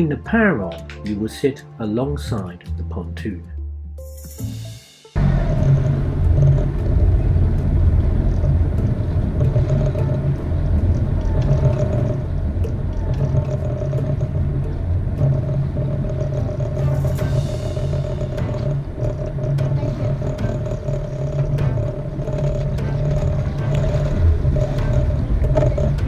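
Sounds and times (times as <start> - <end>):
boat diesel engines humming: 4.5 - 26.0.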